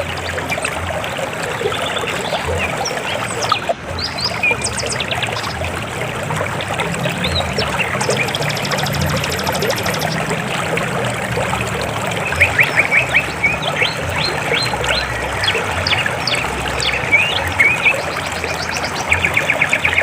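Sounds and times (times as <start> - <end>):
birds chirping: 0.0 - 20.0
river water flowing: 0.0 - 20.0.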